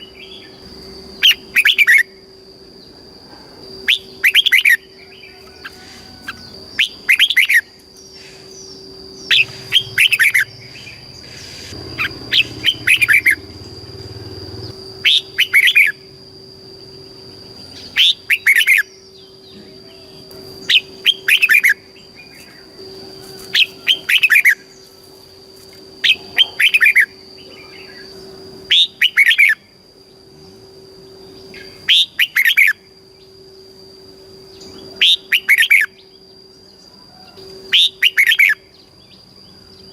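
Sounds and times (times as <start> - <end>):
faint steady high tone: 0.0 - 39.9
bulbul singing: 3.7 - 33.4, 34.3 - 39.9.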